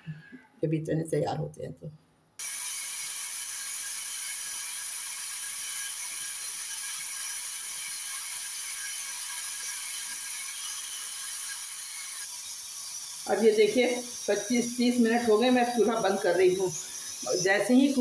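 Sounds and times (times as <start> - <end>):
pressure cooker steam hissing: 2.4 - 18.0.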